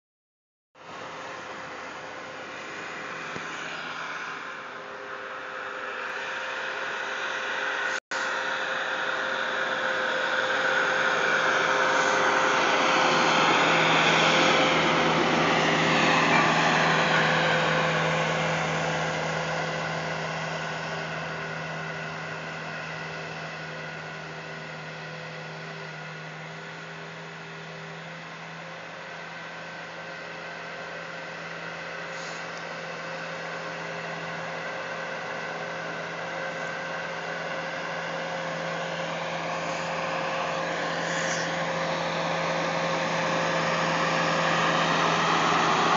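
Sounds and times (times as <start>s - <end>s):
loader engine running: 0.8s - 45.9s.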